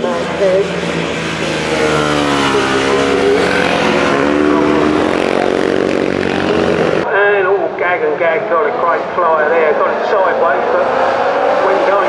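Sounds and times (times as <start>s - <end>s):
motorcycle engines revving: 0.0s - 7.1s, 8.2s - 12.0s.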